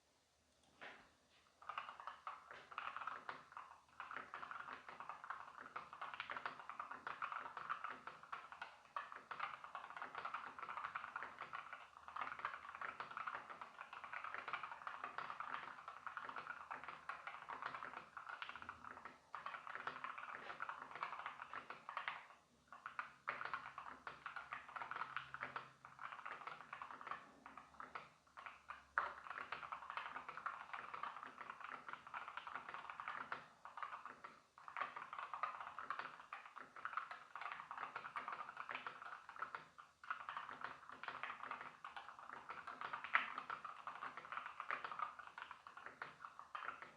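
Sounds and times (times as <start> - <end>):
fast keyboard typing: 1.6 - 46.9.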